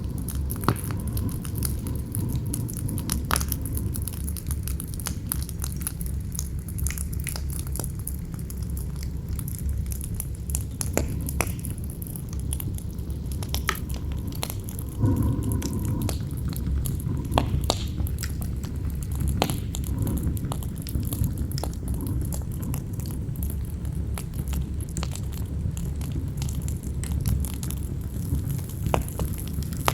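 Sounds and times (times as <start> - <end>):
campfire crackling and popping: 0.0 - 29.9
wind rumble: 0.0 - 29.9.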